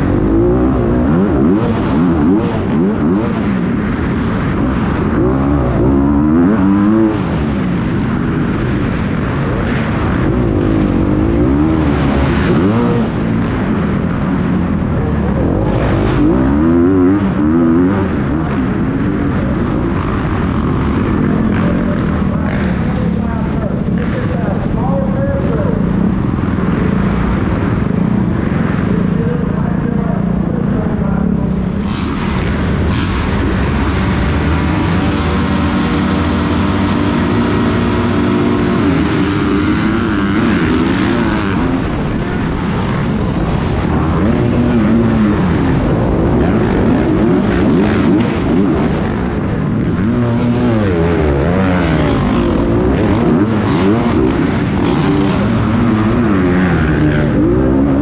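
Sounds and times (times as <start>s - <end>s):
dirt bike engine revving: 0.0s - 58.0s
other dirt bike engines: 0.0s - 58.0s
rough rush of noise: 0.0s - 58.0s.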